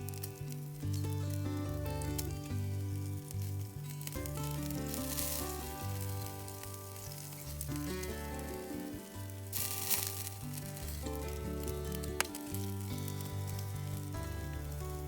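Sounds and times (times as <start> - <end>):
background music with bass line: 0.0 - 15.0
sizzling hiss: 0.0 - 15.0.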